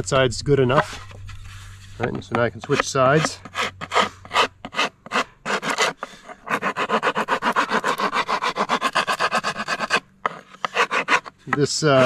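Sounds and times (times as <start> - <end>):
wood rasp scraping wood: 0.7 - 12.0.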